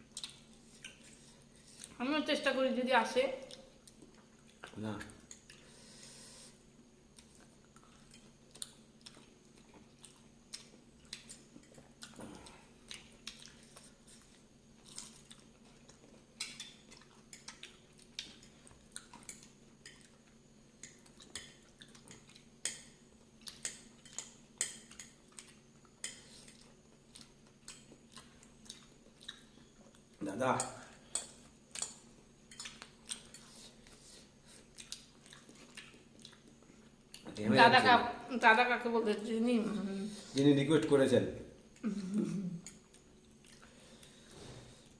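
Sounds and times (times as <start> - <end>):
chewing and crunching food: 0.0 - 2.0, 3.4 - 6.5, 7.1 - 37.5, 42.6 - 44.9.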